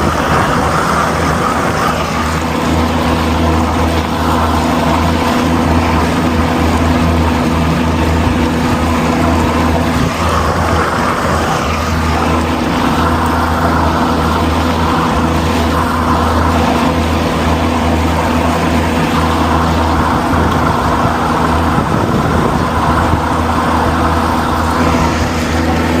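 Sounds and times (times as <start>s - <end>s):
motorboat engine running: 0.0s - 26.0s
wind and water wash: 0.0s - 26.0s.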